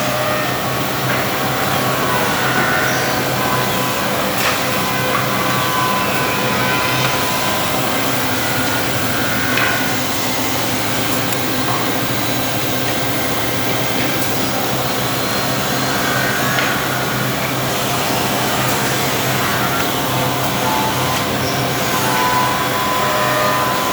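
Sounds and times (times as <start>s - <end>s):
drilling machine motors droning: 0.0s - 23.9s.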